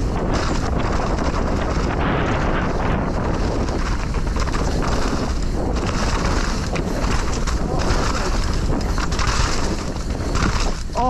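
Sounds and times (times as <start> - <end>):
bike rattling: 0.0 - 11.0
tyres rumbling on dirt: 0.0 - 11.0
wind rushing over microphone: 0.0 - 11.0.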